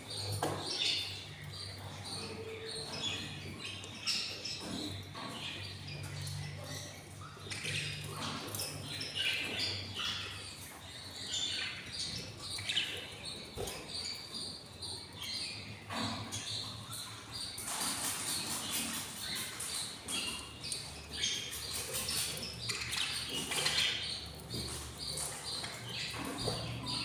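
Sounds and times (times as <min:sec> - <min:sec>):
chicks chirping and squeaking: 0:00.0 - 0:27.0.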